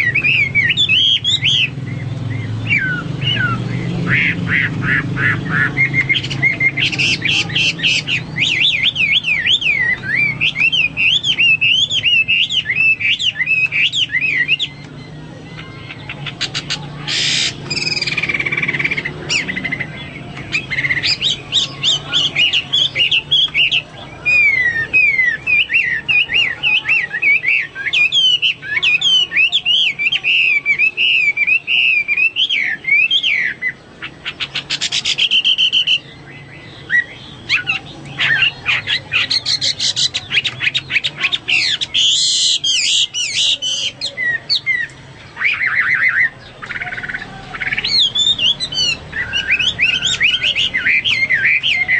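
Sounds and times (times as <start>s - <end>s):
bird singing whistled phrases: 0.0s - 51.9s.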